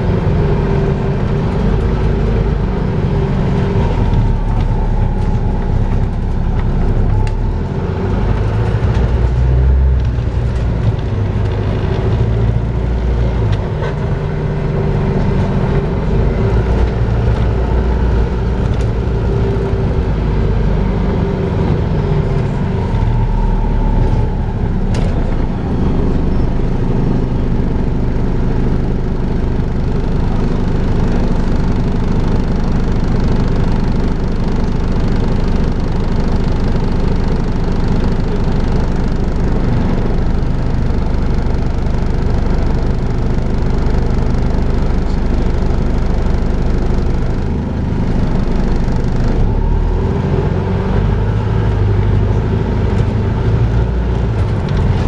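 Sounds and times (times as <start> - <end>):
bus drivetrain drone: 0.0 - 55.0.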